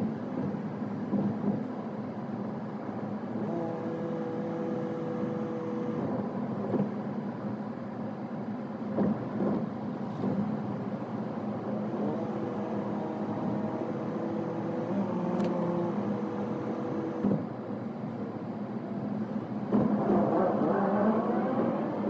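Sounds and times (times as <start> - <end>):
car engine hum: 0.0 - 22.0
road noise: 0.0 - 22.0.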